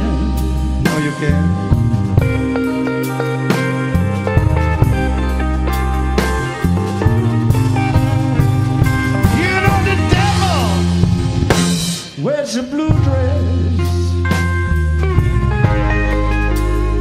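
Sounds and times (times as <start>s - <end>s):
bass guitar: 0.0s - 17.0s
blues-rock band playing: 0.0s - 17.0s
electric guitar lead bending: 0.0s - 17.0s.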